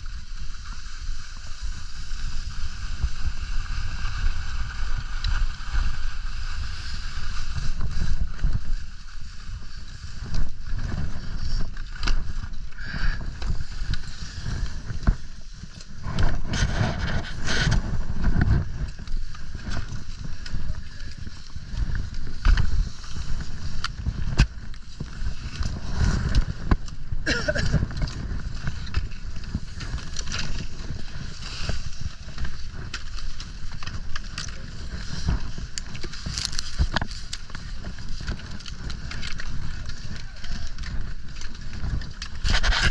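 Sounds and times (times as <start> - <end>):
skis scraping over snow: 0.0 - 42.9
wind rumbling on microphone: 0.0 - 42.9.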